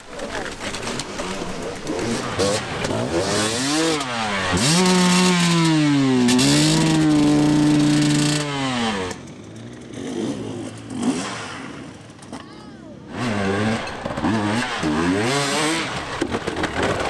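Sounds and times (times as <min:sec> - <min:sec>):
motorcycle engine revving: 0:00.2 - 0:12.5, 0:13.1 - 0:17.0.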